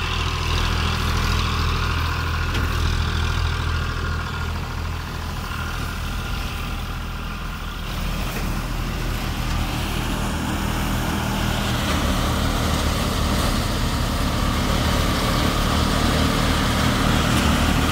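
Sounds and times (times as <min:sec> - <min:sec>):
tractor diesel engine running: 0:00.0 - 0:17.9.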